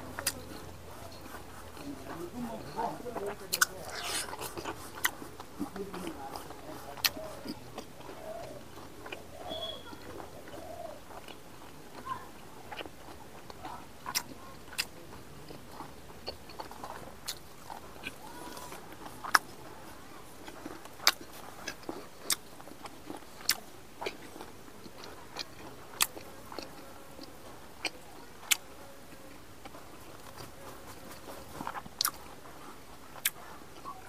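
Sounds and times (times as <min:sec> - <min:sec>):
man chewing with mouth smacks: 0:00.0 - 0:34.0.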